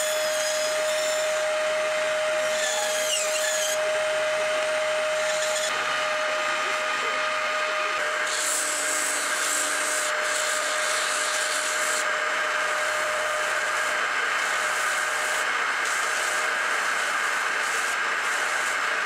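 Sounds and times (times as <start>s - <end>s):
sander hissing on wood: 0.0s - 19.0s.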